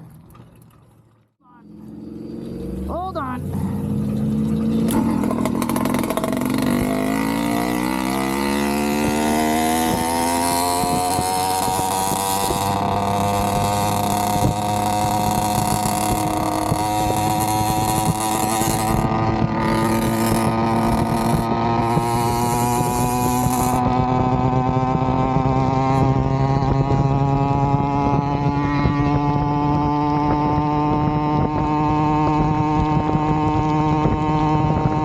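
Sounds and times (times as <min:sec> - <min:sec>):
two-stroke engine revving: 0:01.4 - 0:35.0.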